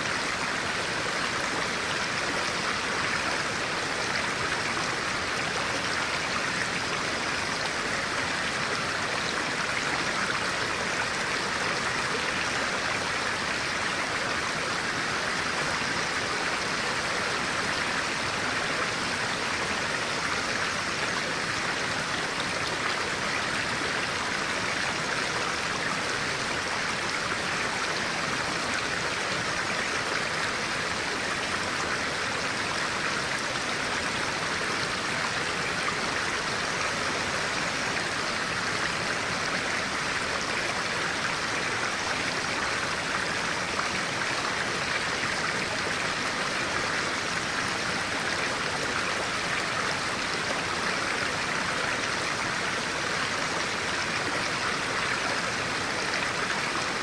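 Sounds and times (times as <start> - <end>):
stream of water flowing: 0.0 - 57.0.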